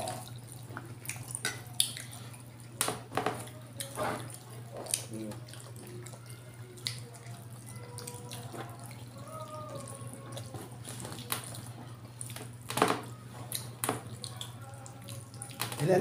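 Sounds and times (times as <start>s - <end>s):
wet chewing and lip-smacking: 0.0s - 2.8s, 3.4s - 15.8s.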